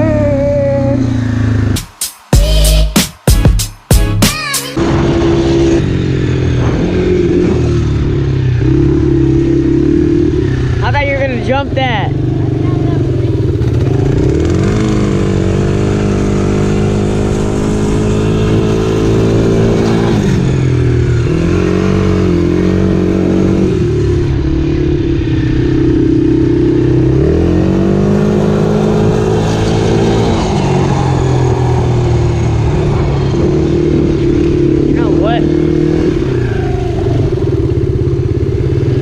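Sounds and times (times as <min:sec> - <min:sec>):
dirt bike engine revving: 0:04.7 - 0:39.0.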